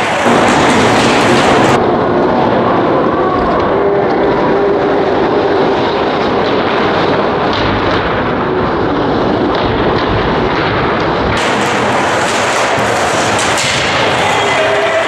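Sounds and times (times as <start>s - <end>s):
ice rink game noise: 0.0s - 15.0s.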